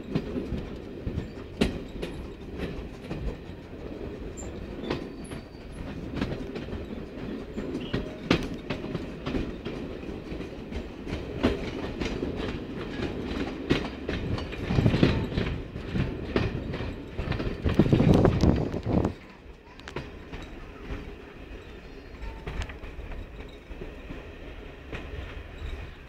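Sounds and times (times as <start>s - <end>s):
steady train rumble: 0.0s - 26.0s
train wheels clicking over rail joints: 0.0s - 26.0s
wind buffeting microphone: 0.0s - 26.0s.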